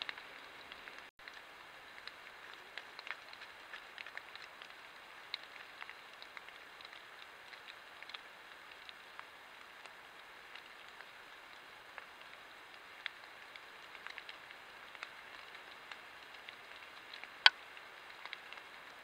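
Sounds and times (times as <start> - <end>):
faint steady hiss: 0.0 - 19.0
water drops pattering on leaves: 0.0 - 19.0.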